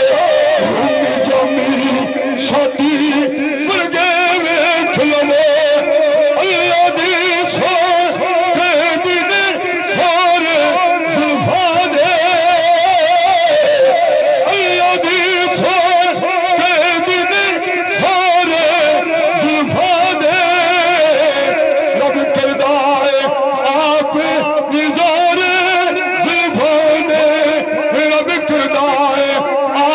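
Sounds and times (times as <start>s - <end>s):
man singing into a microphone: 0.0s - 29.9s.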